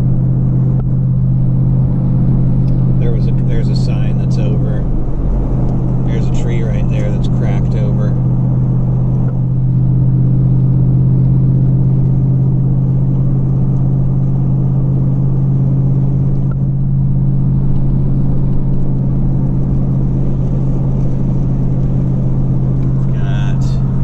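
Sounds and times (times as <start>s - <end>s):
vehicle cabin road drone: 0.0s - 24.0s.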